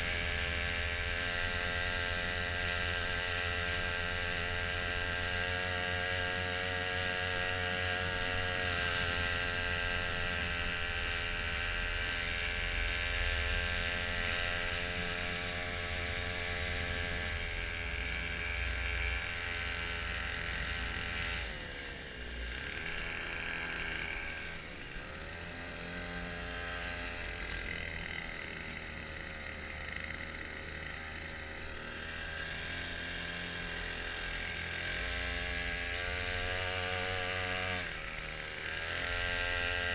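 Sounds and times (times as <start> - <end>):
small boat motor running: 0.0 - 39.9.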